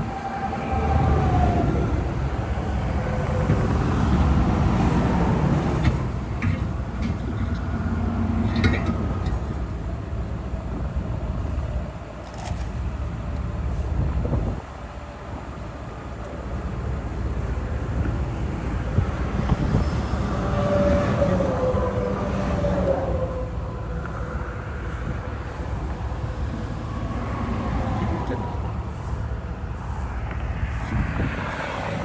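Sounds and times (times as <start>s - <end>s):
highway traffic rumbling past: 0.0s - 32.0s.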